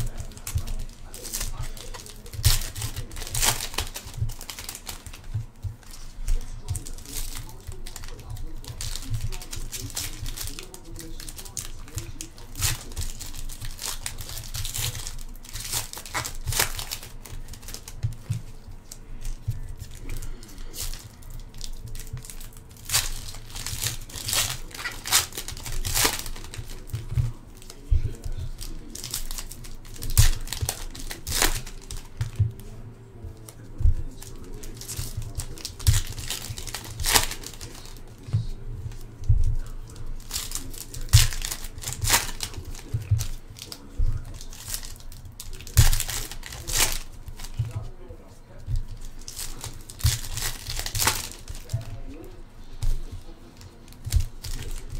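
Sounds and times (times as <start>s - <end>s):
foil wrappers tearing and crinkling: 0.0s - 54.9s.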